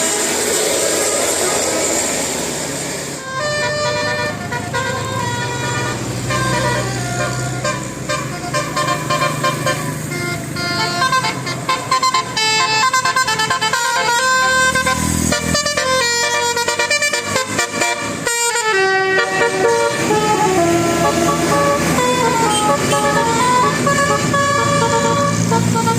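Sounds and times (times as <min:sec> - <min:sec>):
bus melody horn: 0:03.2 - 0:25.9.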